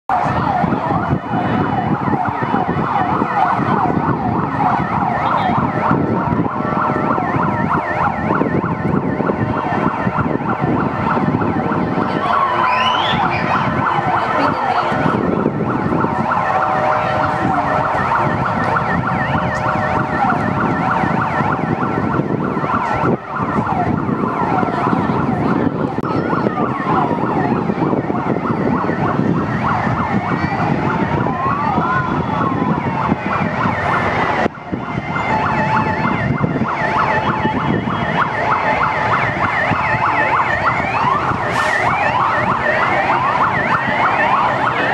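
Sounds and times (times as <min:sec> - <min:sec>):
police sirens yelping: 0:00.0 - 0:44.9
traffic rumble: 0:00.1 - 0:44.9.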